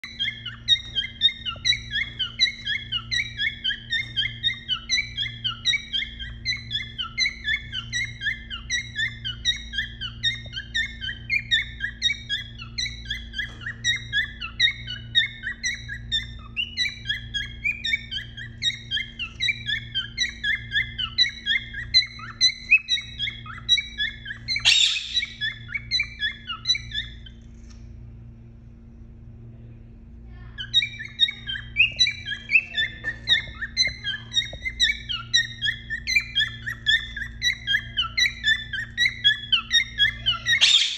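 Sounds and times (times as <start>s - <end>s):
cockatiel chirping whistles: 0.0s - 27.4s, 30.7s - 40.9s
steady low hum: 0.0s - 40.9s.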